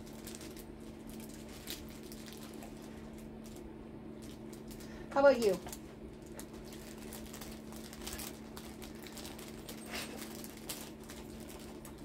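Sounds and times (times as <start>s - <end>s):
dog crunching a treat: 0.0s - 12.0s
steady low hum: 0.0s - 12.0s.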